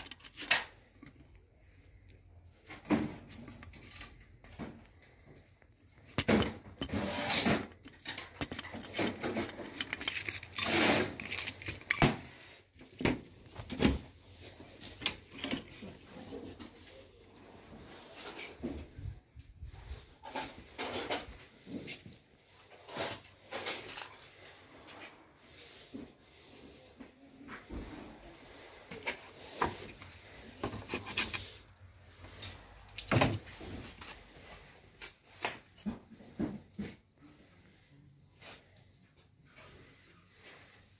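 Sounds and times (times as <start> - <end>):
objects knocking and rustling: 2.4 - 17.0, 17.6 - 37.4.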